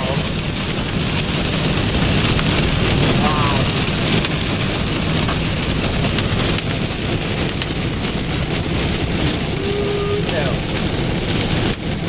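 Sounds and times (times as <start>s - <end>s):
hailstone strikes cracking: 0.0s - 12.0s
heavy rain on a vehicle: 0.0s - 12.0s.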